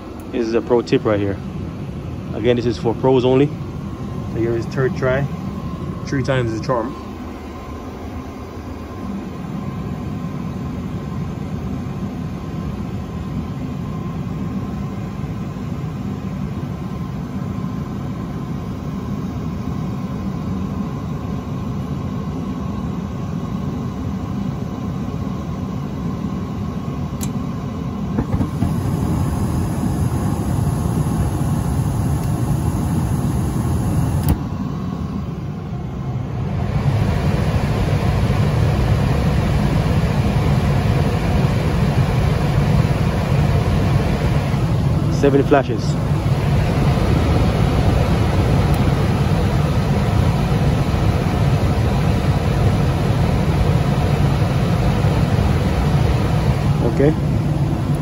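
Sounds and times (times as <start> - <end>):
gas furnace humming: 0.0 - 58.0.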